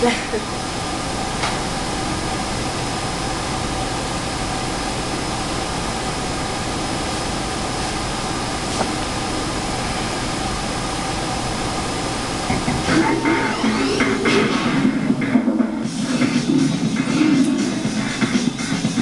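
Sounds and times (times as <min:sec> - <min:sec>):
fan hiss and hum: 0:00.0 - 0:19.0.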